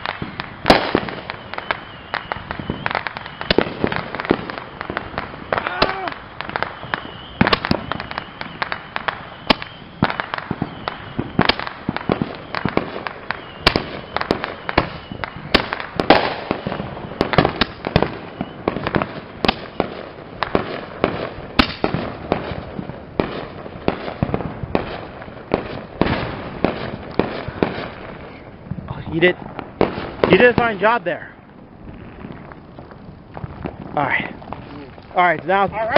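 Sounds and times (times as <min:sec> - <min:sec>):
fireworks bangs and pops: 0:00.0 - 0:35.9.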